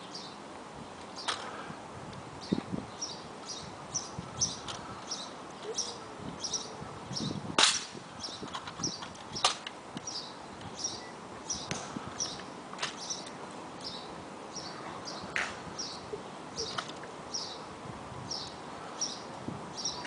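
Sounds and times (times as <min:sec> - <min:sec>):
bird chirping: 0:00.0 - 0:00.4, 0:02.4 - 0:07.4, 0:08.2 - 0:17.7, 0:18.3 - 0:20.0.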